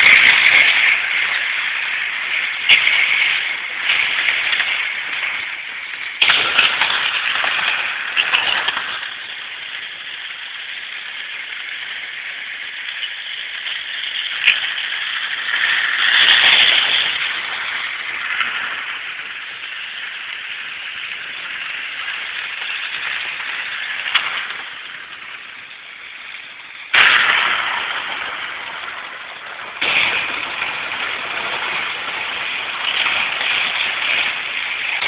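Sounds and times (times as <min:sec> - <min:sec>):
model trains rattling on track: 0:00.0 - 0:35.0.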